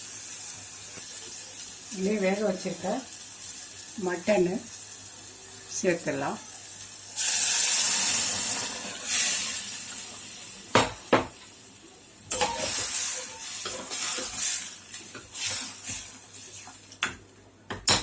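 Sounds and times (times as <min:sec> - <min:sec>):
meat sizzling in oil: 0:00.0 - 0:17.2.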